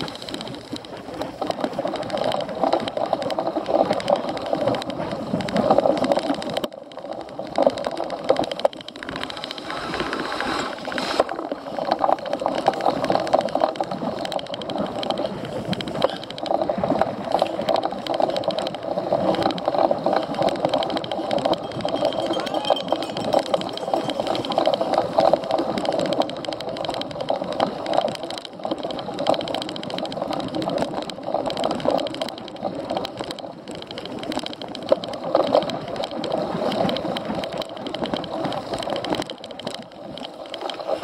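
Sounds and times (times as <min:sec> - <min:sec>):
bike rattling over rough ground: 0:00.0 - 0:41.0.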